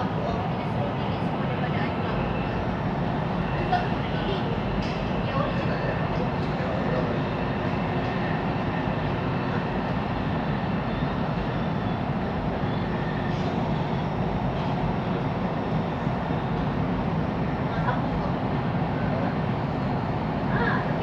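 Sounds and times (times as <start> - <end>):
metro train rumble: 0.0 - 21.0.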